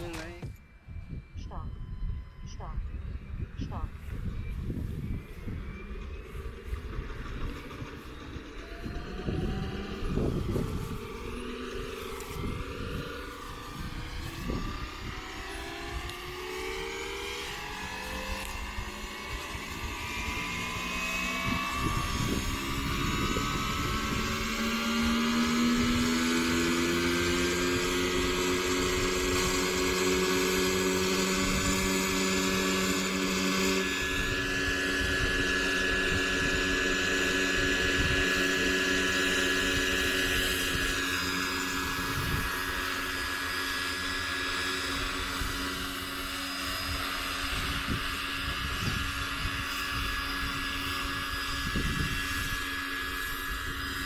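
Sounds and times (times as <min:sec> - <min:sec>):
model helicopter motor whine: 0:00.0 - 0:54.0.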